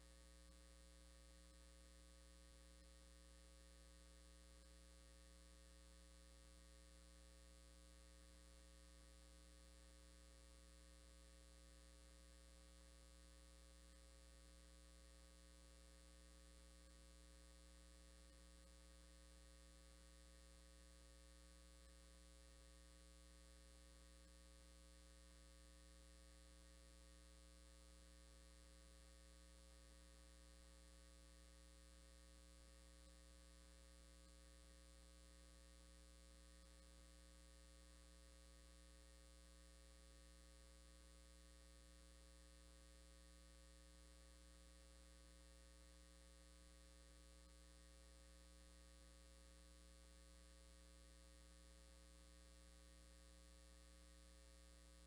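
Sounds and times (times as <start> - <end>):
faint mains hum: 0.0 - 55.0.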